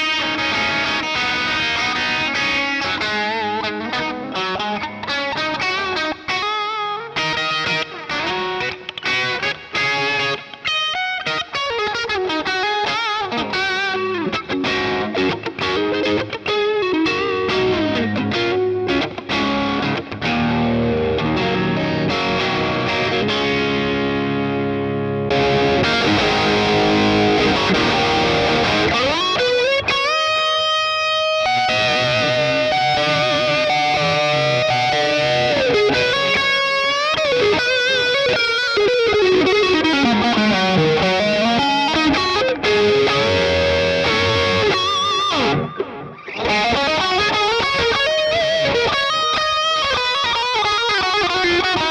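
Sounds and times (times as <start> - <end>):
distorted electric guitar: 0.0 - 51.9.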